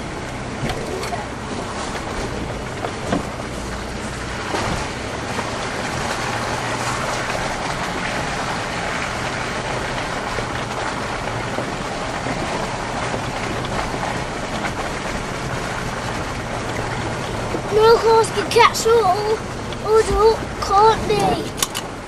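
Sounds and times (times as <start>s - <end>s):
car engine hum: 0.0s - 22.0s
tyres rushing through mud: 0.0s - 22.0s.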